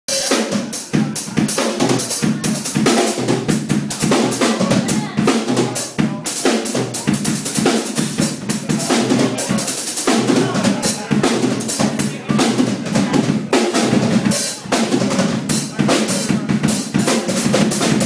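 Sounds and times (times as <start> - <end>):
snare and bass drum strikes: 0.1 - 18.0.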